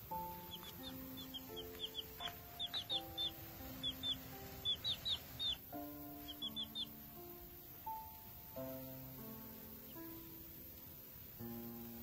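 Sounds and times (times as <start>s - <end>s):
background music slow held notes: 0.0s - 12.0s
chicks peeping: 0.0s - 12.0s.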